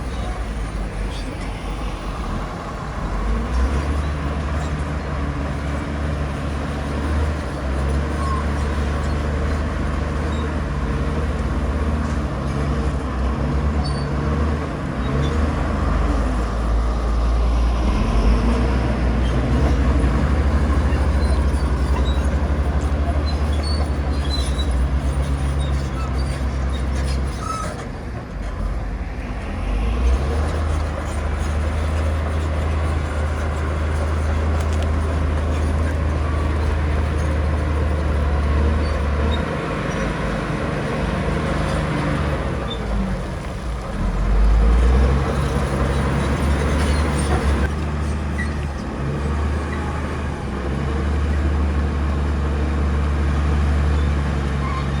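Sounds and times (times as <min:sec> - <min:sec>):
heavy diesel engine rumbling: 0:00.0 - 0:55.0.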